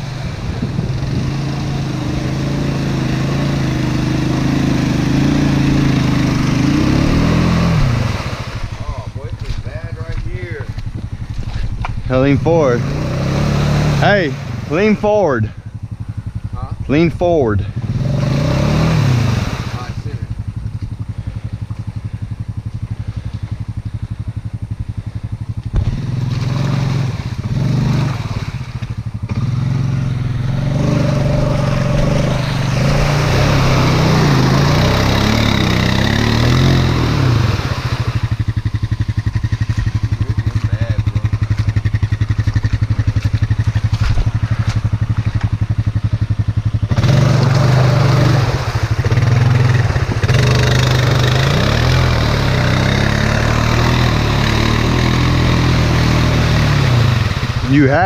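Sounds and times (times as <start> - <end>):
atv engine revving: 0.0 - 58.0
tires churning through mud: 0.0 - 58.0.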